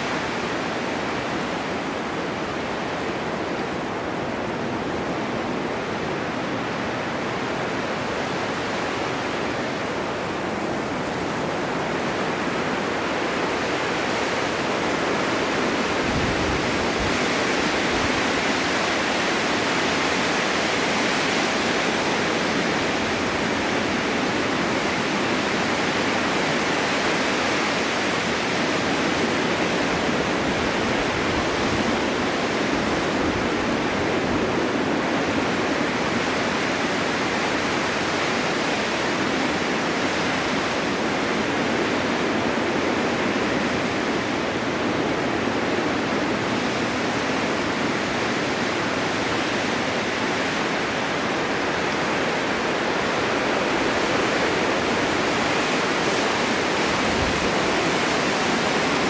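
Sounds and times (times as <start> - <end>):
snowstorm wind blowing: 0.0 - 59.0.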